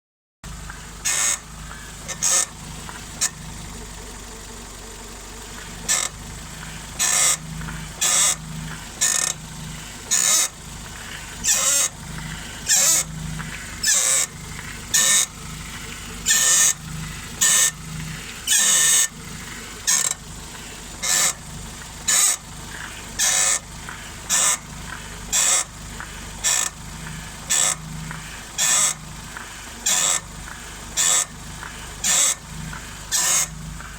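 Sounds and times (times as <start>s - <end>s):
car suspension squeaking: 0.5s - 33.9s
steady low hum: 0.5s - 33.9s.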